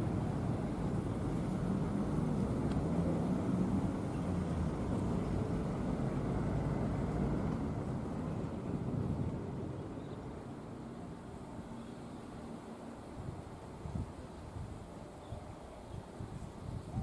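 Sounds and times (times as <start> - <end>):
diesel locomotive engine rumbling: 0.0 - 13.7.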